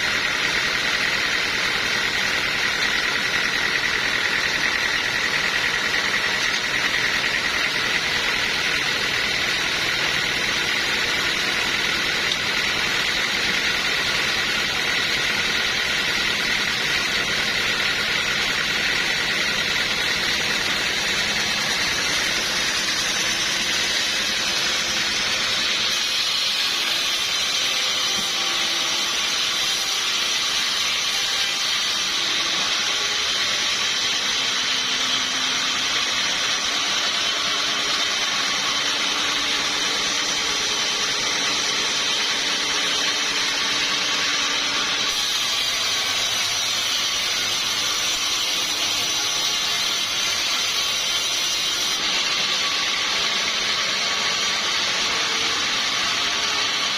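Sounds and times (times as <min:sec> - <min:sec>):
sawmill saw cutting log: 0:00.0 - 0:56.9.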